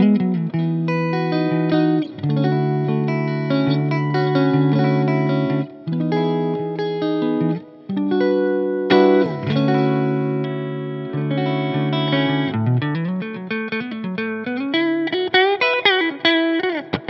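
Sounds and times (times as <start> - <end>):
electric guitar with string bends: 0.0 - 17.0.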